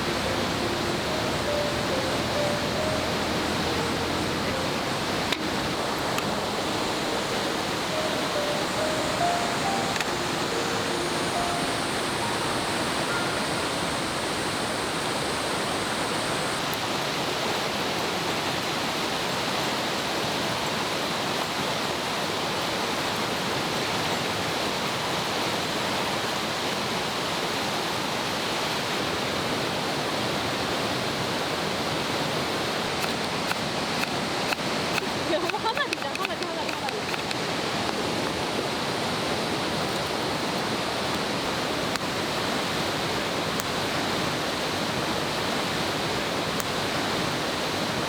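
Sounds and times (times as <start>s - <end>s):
river flowing: 0.0s - 48.0s.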